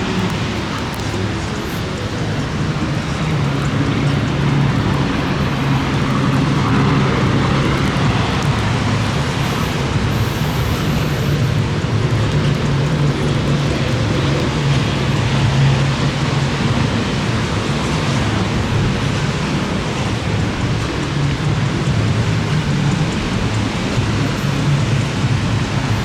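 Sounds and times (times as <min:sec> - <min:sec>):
gusting wind: 0:00.0 - 0:26.0
heavy rain: 0:00.0 - 0:26.0.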